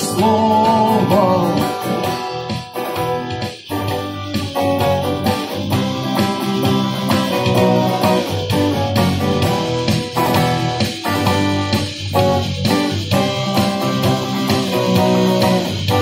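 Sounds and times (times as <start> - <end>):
guitar strummed: 0.0 - 16.0
low bass line: 0.0 - 16.0.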